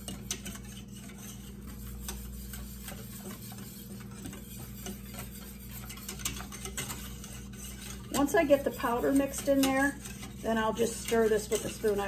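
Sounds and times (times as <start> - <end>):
whisk ticking against metal saucepan: 0.0 - 12.0.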